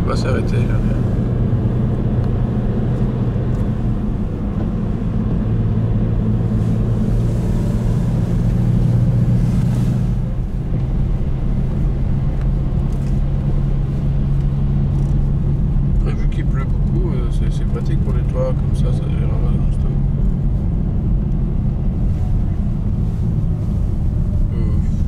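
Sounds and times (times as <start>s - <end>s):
car engine and tyre hum: 0.0s - 25.0s.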